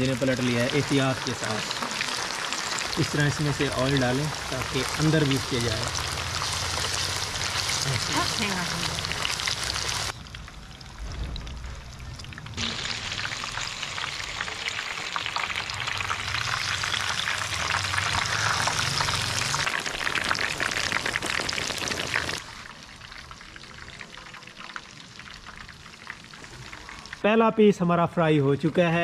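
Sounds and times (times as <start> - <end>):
fish frying in sizzling oil: 0.0 - 27.3.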